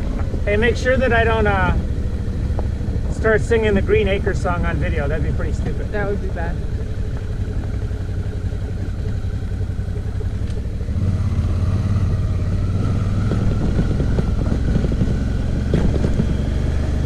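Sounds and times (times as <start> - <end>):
motorcycle engine hum: 0.0 - 17.0
tyres on dirt road: 0.0 - 17.0.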